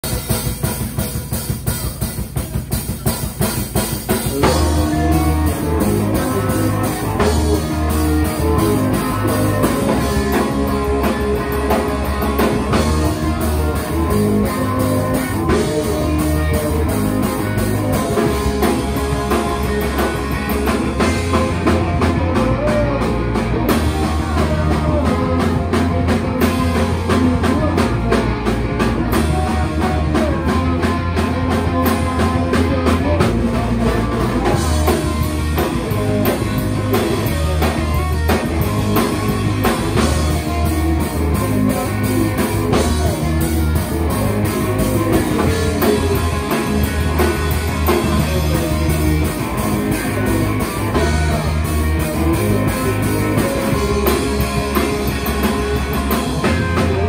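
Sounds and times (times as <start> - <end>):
drums: 0.0 - 57.0
electric bass: 0.0 - 57.0
electric guitar: 0.0 - 57.0
person singing lead vocal: 4.2 - 57.0.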